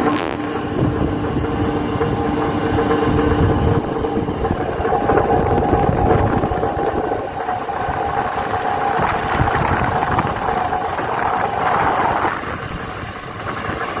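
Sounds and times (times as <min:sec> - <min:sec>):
gearbox whine: 0:00.0 - 0:14.0
rough mechanical rumble: 0:00.0 - 0:14.0.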